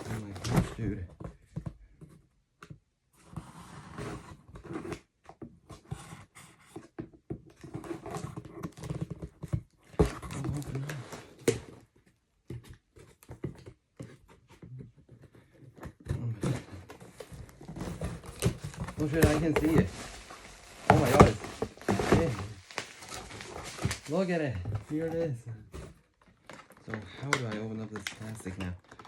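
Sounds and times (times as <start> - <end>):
cardboard and packing rustling: 0.0 - 2.3, 3.2 - 29.0.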